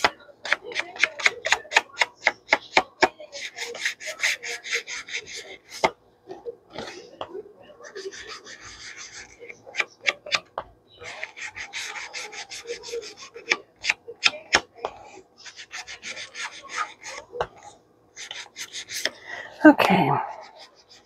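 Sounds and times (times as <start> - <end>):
rubbing and dabbing on paper: 0.0 - 5.9, 7.7 - 10.4, 11.0 - 21.0.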